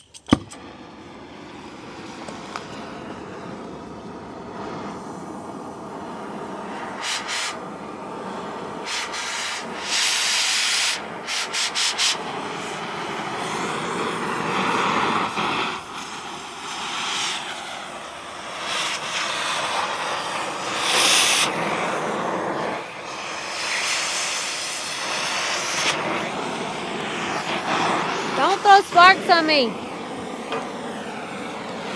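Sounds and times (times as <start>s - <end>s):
cutting torch hissing: 0.0s - 31.9s.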